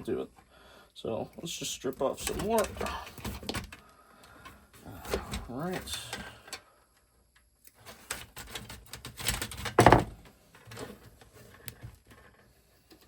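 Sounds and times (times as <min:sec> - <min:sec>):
wire clicking and rustling: 0:01.8 - 0:13.0.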